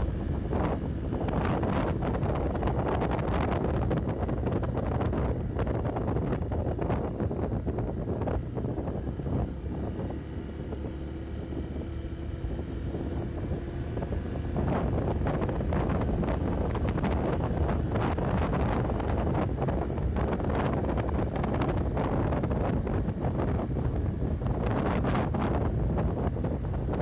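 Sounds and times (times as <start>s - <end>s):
motorcycle engine rumble: 0.0s - 27.0s
wind buffeting microphone: 0.0s - 27.0s.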